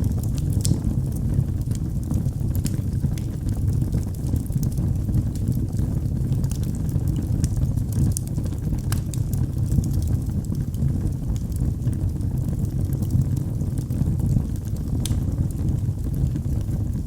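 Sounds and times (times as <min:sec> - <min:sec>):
low rumble of burning: 0:00.0 - 0:17.0
wood fire crackling and popping: 0:00.0 - 0:17.0.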